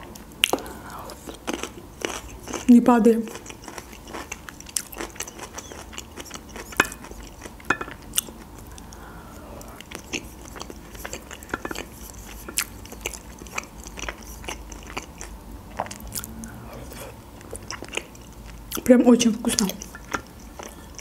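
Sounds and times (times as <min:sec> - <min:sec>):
chewing and mouth smacking: 0:00.1 - 0:02.7, 0:03.3 - 0:09.0, 0:09.6 - 0:18.9, 0:19.5 - 0:21.0.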